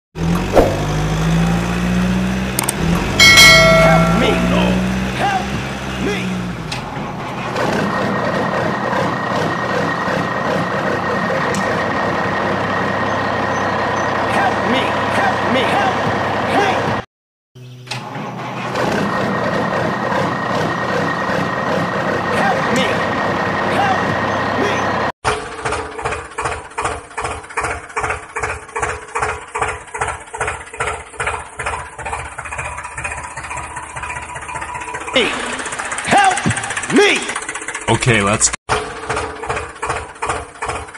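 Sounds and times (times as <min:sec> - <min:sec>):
truck engine running: 0:00.2 - 0:17.0, 0:18.0 - 0:40.9.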